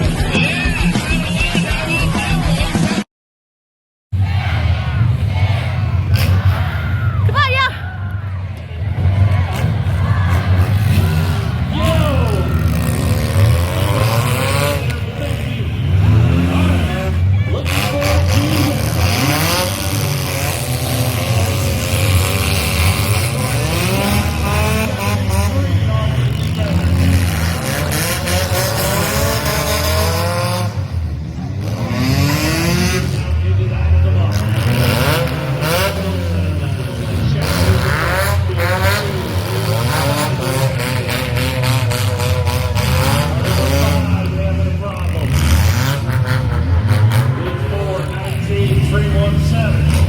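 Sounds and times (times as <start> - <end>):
car engines revving loudly: 4.2 - 50.0.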